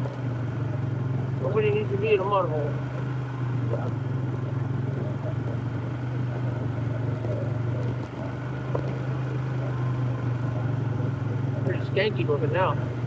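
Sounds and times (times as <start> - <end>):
atv engine droning: 0.0 - 13.0.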